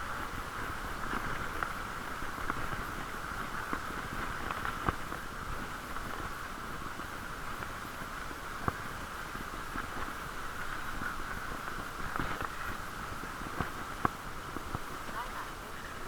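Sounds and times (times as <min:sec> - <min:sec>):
wind hiss and rumble: 0:00.0 - 0:16.0.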